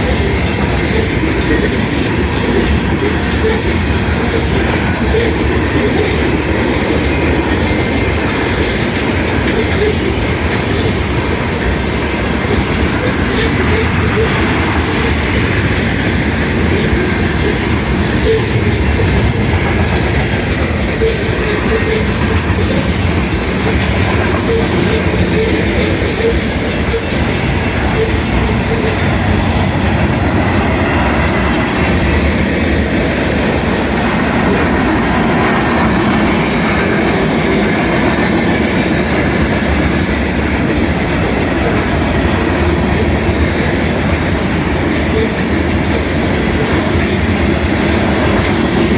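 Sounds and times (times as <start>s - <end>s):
freight train rolling past: 0.0s - 48.9s
wheels clacking over rail joints: 0.0s - 48.9s.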